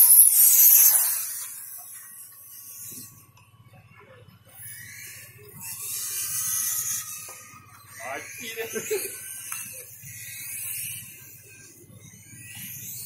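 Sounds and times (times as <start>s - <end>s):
toy motorcycle high hissing whine: 0.0s - 3.4s, 4.5s - 13.0s.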